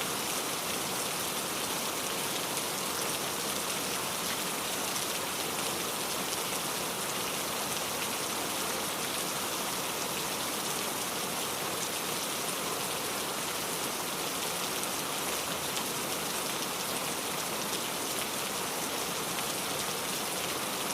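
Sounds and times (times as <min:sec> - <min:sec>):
rain falling on a surface: 0:00.0 - 0:20.9.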